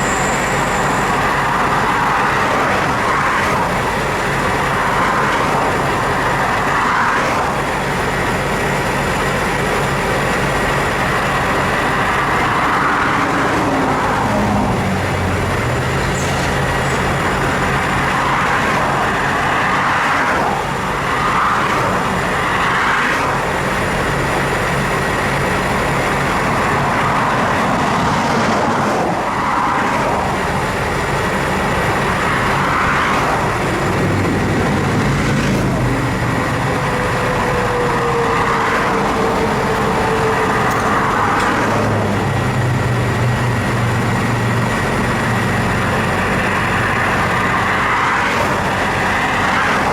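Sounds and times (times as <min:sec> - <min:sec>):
road traffic passing: 0:00.0 - 0:49.9
engine idling: 0:07.5 - 0:13.1, 0:13.8 - 0:28.3, 0:29.0 - 0:49.9.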